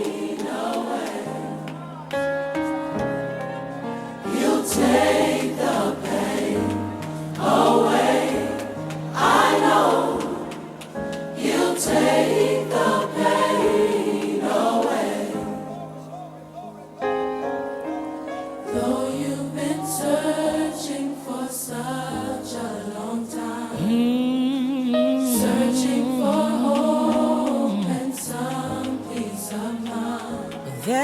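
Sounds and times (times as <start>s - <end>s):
gospel choir singing: 0.0s - 31.0s.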